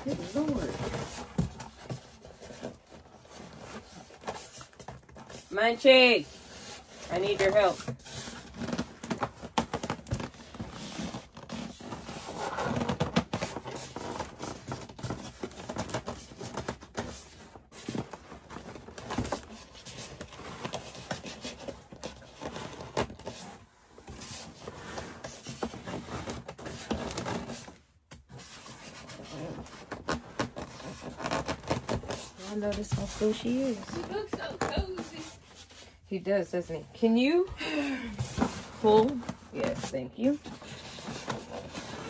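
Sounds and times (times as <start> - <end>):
styrofoam scraping cardboard: 0.0 - 36.0, 38.2 - 42.0.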